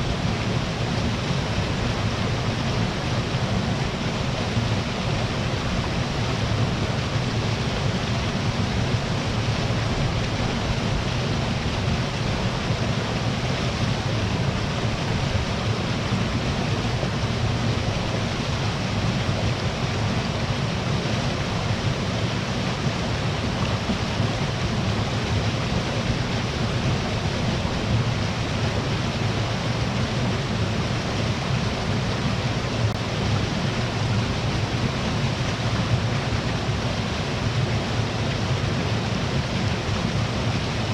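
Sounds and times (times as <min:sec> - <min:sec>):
small waterfall rushing: 0:00.0 - 0:40.9.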